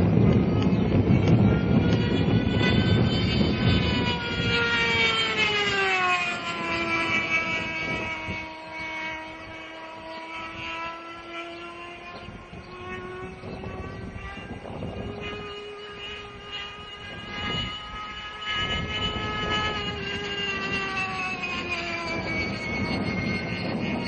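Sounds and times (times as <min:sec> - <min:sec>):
model jet engine whine flying past: 0:00.0 - 0:24.0.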